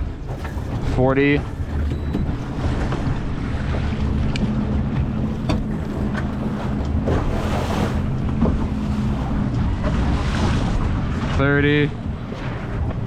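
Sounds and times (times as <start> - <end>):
low steady hum: 0.0 - 13.0
water washing along hull: 0.0 - 13.0
wind buffeting microphone: 0.0 - 13.0.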